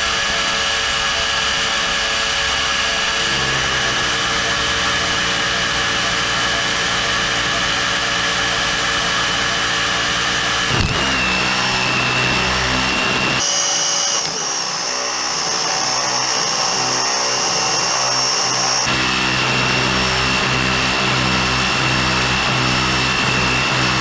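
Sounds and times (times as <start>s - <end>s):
electric motor high whine: 0.0s - 24.0s.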